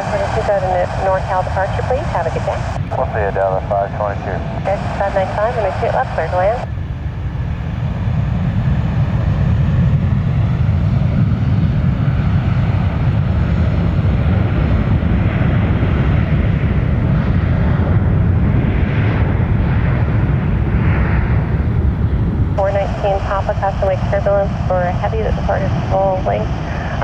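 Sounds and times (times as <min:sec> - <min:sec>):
jet engine rumble and hiss: 0:00.0 - 0:27.0.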